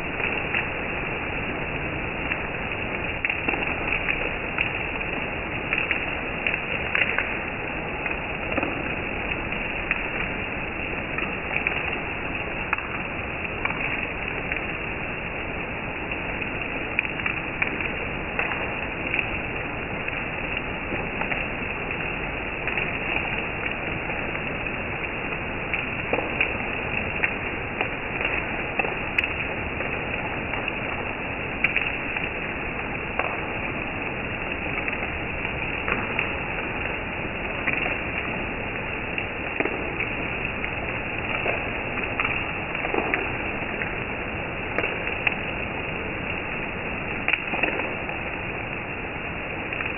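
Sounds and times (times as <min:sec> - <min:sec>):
heavy rain on leaves: 0:00.0 - 0:49.9
raindrop taps: 0:00.0 - 0:49.9.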